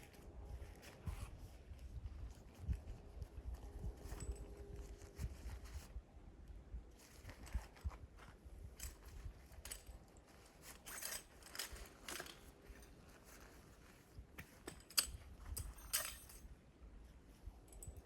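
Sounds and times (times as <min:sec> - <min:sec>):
camp gear being handled: 0:00.0 - 0:06.0, 0:06.9 - 0:18.0.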